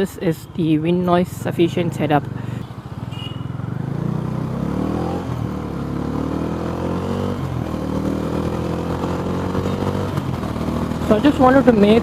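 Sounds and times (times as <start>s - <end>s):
motorcycle engine accelerating: 1.3s - 12.0s.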